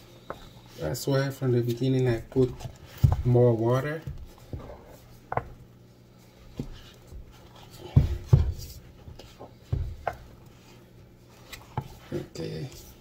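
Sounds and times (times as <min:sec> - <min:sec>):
wooden spoon mashing dough: 0:00.0 - 0:13.0.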